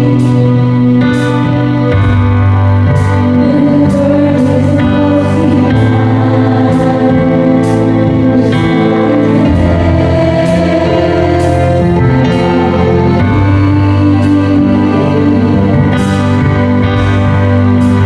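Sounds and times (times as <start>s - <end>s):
slow gospel keyboard music: 0.0s - 18.0s.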